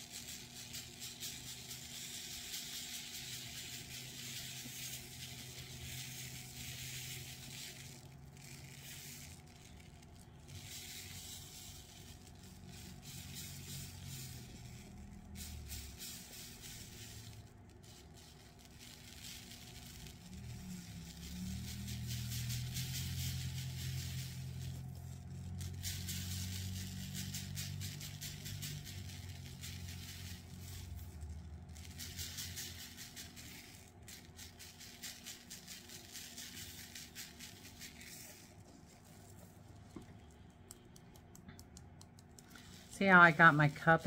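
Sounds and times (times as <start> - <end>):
glitter pouring: 0.0 - 44.0.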